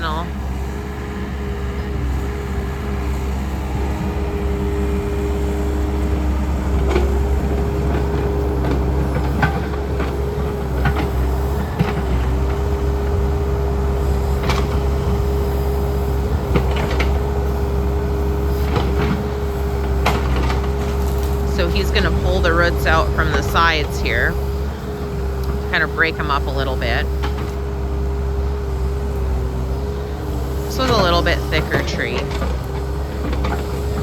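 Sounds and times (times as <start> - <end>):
excavator diesel engine: 0.0 - 34.0.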